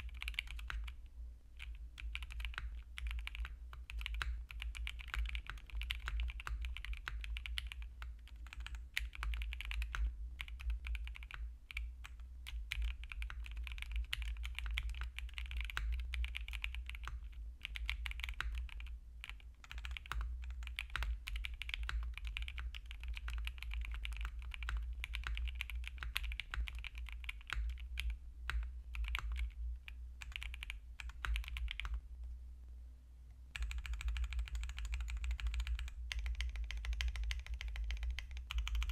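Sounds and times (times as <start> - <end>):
fast mechanical keyboard typing: 0.0 - 1.0, 1.6 - 29.6, 30.2 - 32.0, 33.6 - 38.9.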